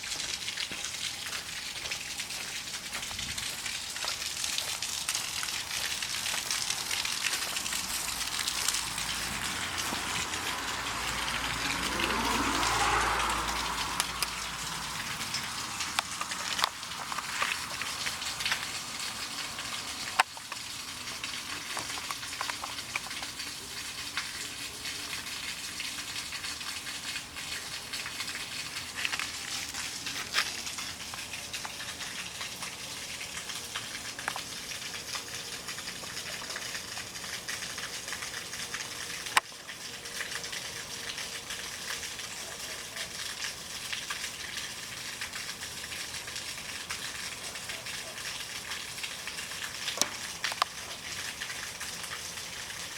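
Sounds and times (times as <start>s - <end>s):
floodwater running: 0.0s - 52.9s.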